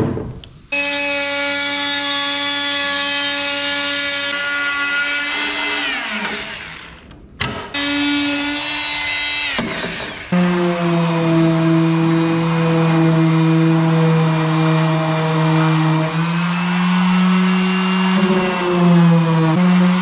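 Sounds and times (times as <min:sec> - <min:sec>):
orbital sander running: 0:02.4 - 0:07.0, 0:07.8 - 0:20.0.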